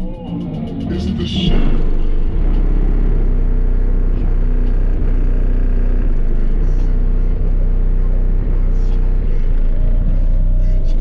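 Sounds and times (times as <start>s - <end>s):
deep subwoofer bass drone: 0.0s - 11.0s.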